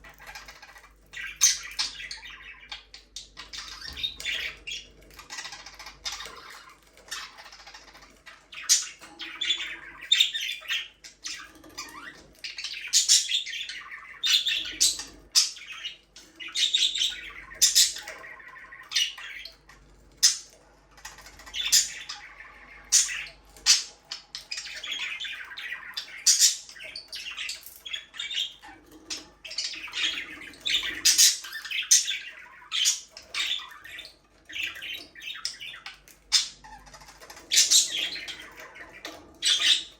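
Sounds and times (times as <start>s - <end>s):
budgies chattering and chirping: 0.0s - 39.9s.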